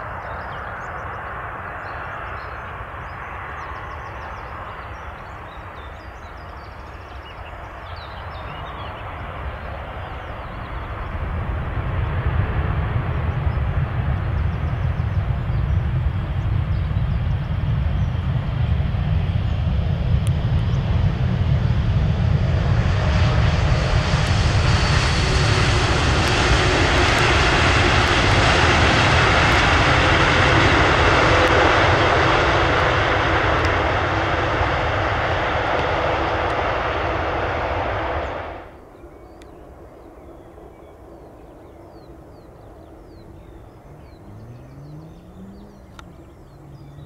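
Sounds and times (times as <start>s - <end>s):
faint steady engine whine: 0.0s - 47.0s
jet airliner passing: 0.0s - 47.0s.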